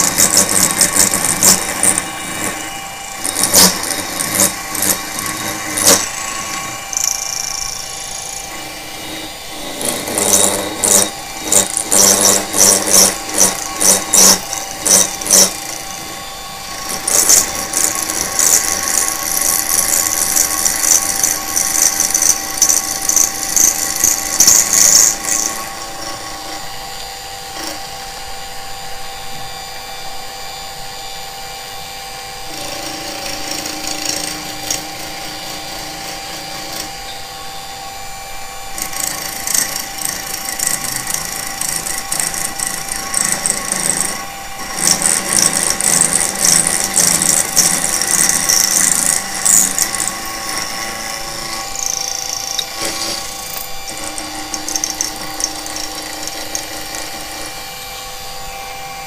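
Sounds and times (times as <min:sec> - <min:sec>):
end mill cutting metal: 0:00.0 - 0:59.0
spindle motor whine: 0:00.0 - 0:59.0.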